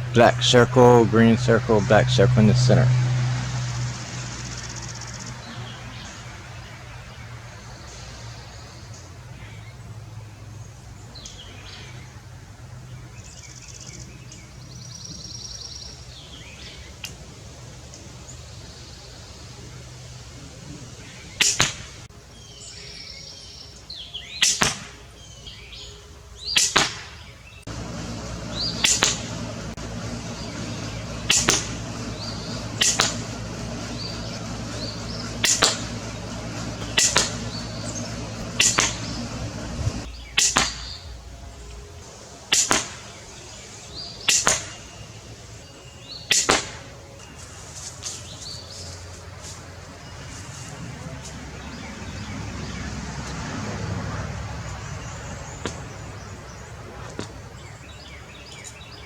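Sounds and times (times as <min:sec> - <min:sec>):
steady low hum: 0:00.0 - 0:22.4, 0:27.5 - 0:59.0.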